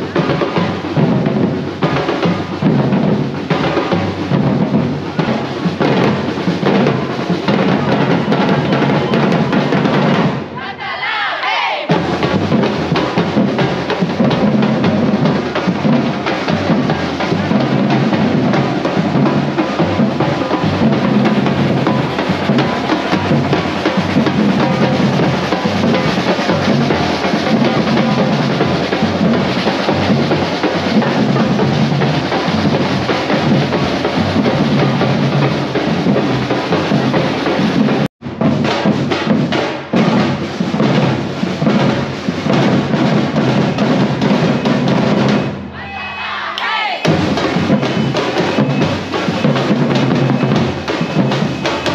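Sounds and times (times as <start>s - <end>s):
drum-heavy music: 0.0s - 51.9s.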